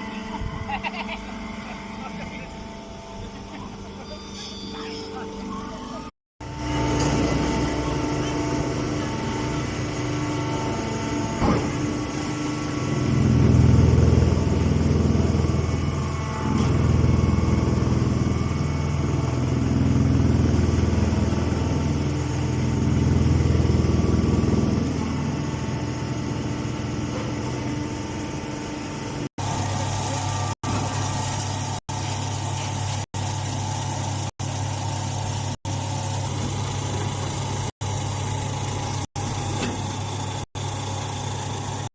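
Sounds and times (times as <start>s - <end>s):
hay baler machine humming: 0.0s - 41.9s.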